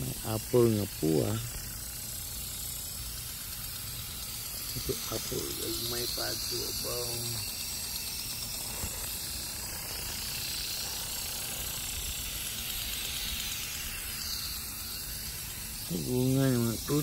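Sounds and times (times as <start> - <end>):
sprinkler spraying water: 0.0 - 17.0.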